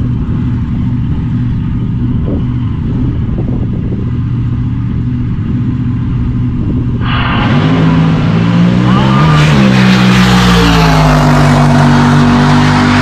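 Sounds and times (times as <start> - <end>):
engine idling with loud rumble: 0.0 - 13.0.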